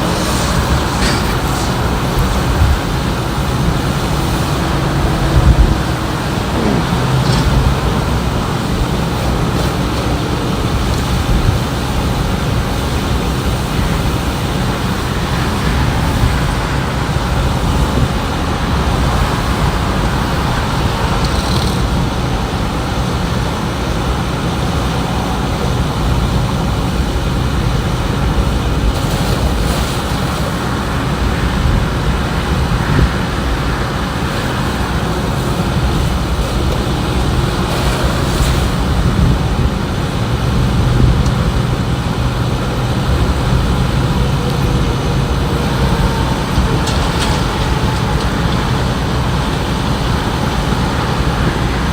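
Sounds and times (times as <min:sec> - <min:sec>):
highway traffic noise: 0:00.0 - 0:51.9.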